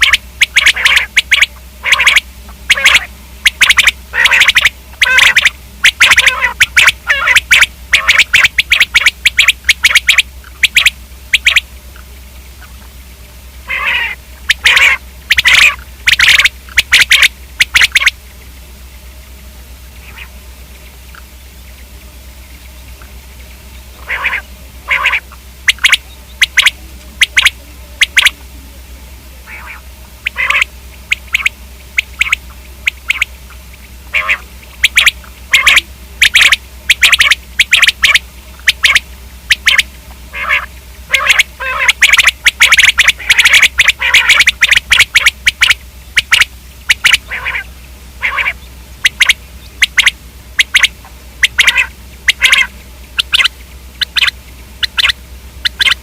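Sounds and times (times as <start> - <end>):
quail calling: 0.0 - 56.0.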